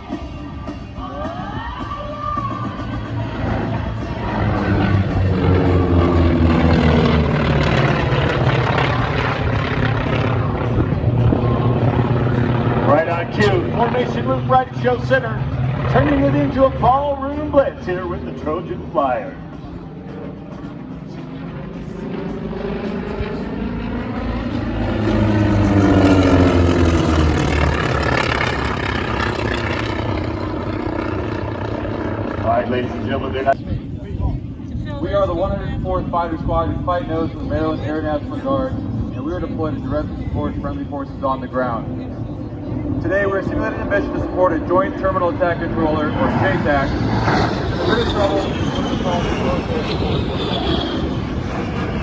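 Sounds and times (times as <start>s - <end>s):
propeller planes flying past: 0.0s - 52.0s.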